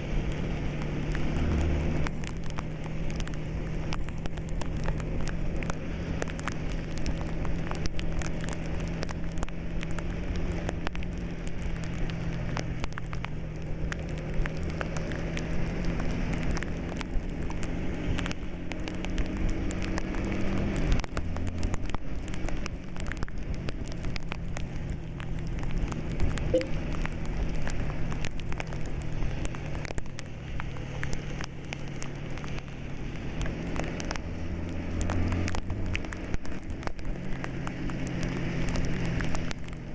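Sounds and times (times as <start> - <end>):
light crackling patter: 0.0 - 39.9.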